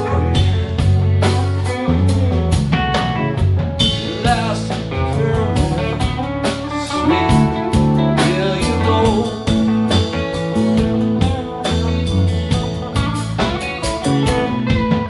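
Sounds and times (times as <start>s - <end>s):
live band playing: 0.0s - 15.0s
steady drum beat: 0.0s - 15.0s.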